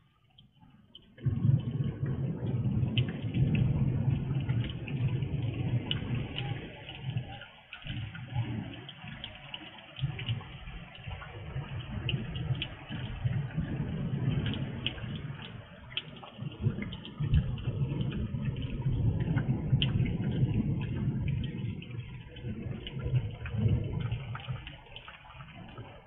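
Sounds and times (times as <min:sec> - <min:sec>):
raindrops ticking: 0:00.0 - 0:26.0
rain hissing: 0:00.9 - 0:26.0.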